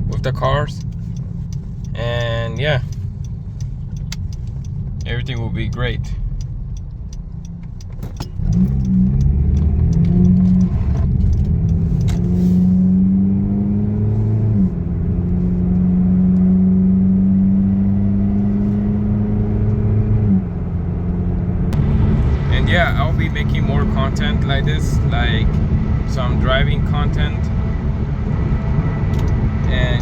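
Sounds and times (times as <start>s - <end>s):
car exhaust drone accelerating: 0.0s - 30.0s.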